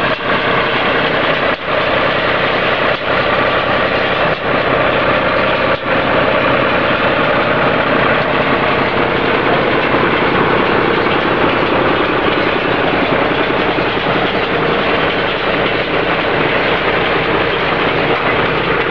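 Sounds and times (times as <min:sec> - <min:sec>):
tractor and baler machinery noise: 0:00.0 - 0:18.9.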